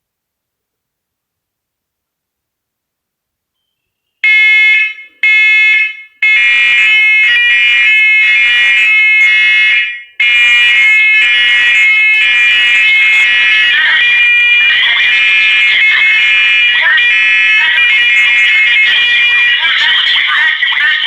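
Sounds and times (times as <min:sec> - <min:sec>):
smoke alarms beeping: 0:03.6 - 0:20.8.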